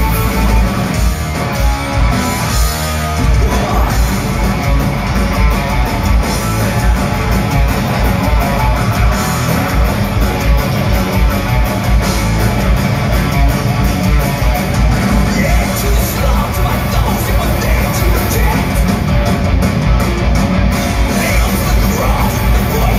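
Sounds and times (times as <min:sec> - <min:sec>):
metal band playing live: 0:00.0 - 0:22.9
rapid pounding kick drums: 0:00.0 - 0:22.9.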